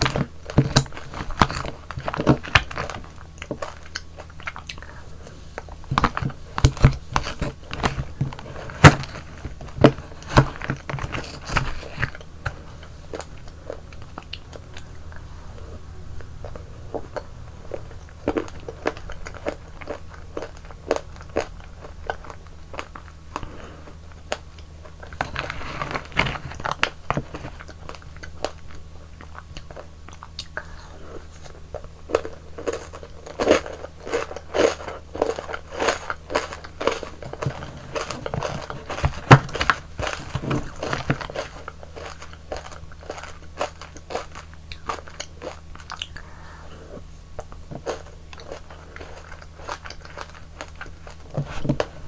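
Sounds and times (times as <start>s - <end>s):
faint low hum: 0.0s - 52.0s
person chewing frozen yogurt: 0.0s - 52.0s.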